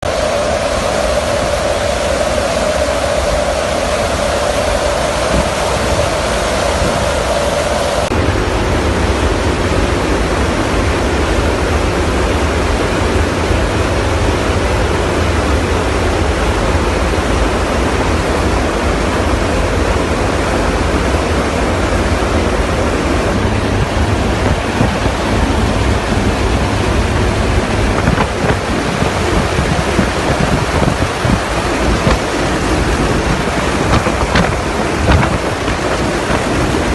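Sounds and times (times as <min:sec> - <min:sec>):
aeroplane engine roar: 0:00.0 - 0:36.9
whine: 0:00.0 - 0:36.9.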